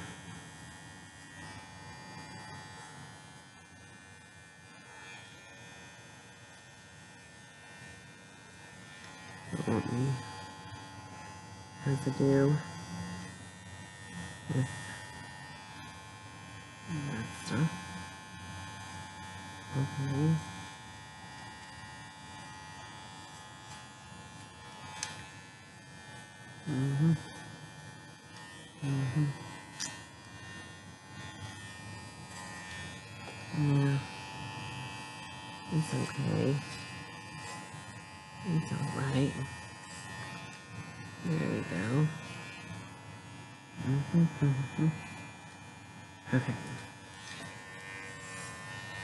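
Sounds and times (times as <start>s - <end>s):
electric clippers buzzing: 0.0s - 49.0s.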